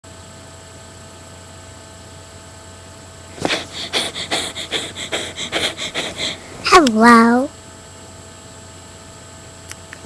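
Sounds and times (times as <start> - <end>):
electrical hum and hiss: 0.1 - 10.0.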